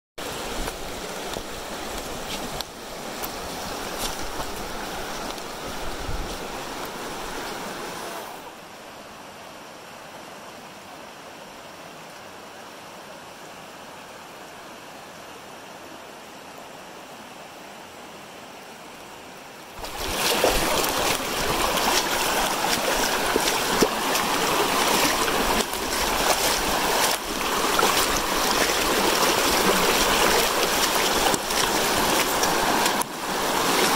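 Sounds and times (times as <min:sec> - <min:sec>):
river flowing over rocks: 0:00.2 - 0:33.9.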